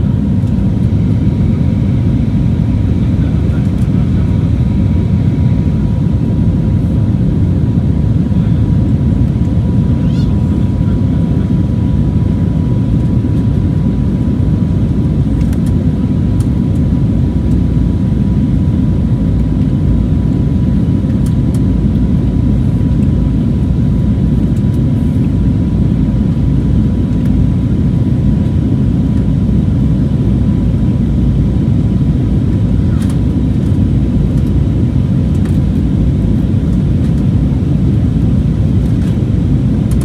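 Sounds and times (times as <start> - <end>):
aircraft engine rumble: 0.0 - 40.0.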